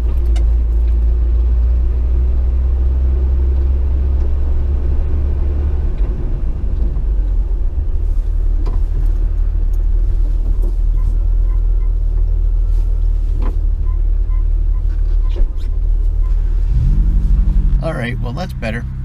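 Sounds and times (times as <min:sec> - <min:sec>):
road rumble inside car cabin: 0:00.0 - 0:19.0.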